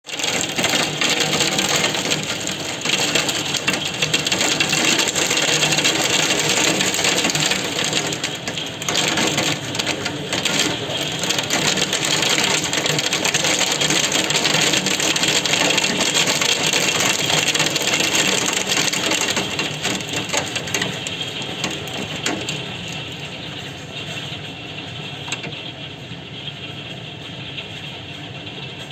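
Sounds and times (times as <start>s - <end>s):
heavy rain pattering: 0.0s - 28.9s.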